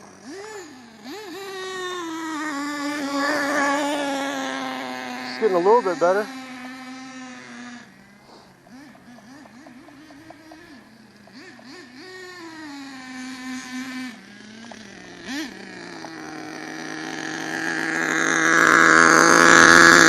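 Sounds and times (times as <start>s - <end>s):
model truck nitro engine running: 0.0s - 20.0s.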